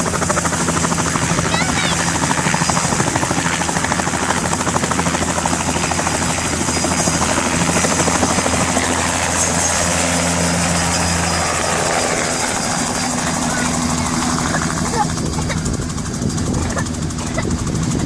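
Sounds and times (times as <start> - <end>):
helicopter high whine: 0.0 - 18.0
helicopter rotor beating: 0.0 - 18.0.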